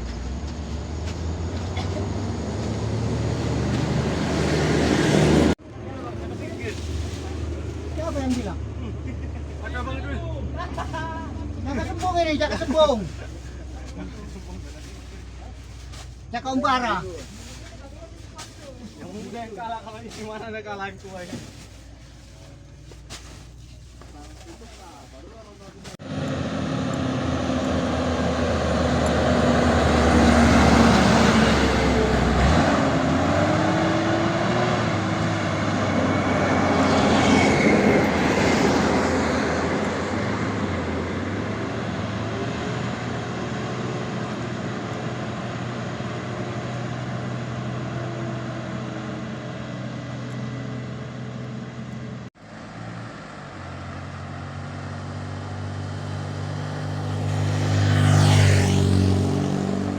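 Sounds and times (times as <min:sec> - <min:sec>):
truck diesel engine under load: 0:00.0 - 0:59.9.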